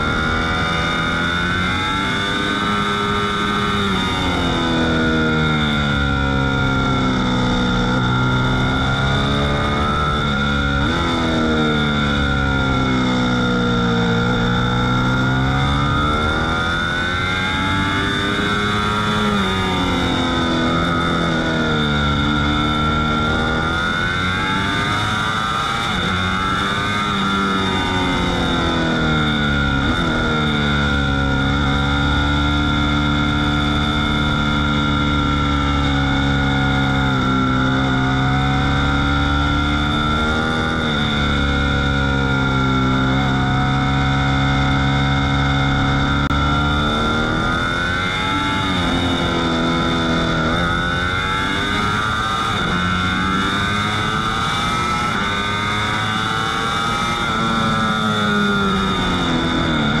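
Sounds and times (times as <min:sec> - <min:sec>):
motorcycle engine at speed: 0:00.0 - 1:00.0.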